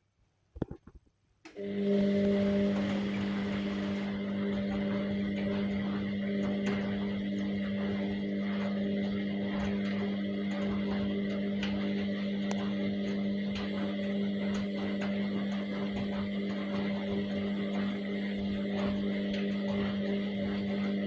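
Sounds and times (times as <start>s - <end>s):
washing machine motor hum: 1.5s - 21.0s.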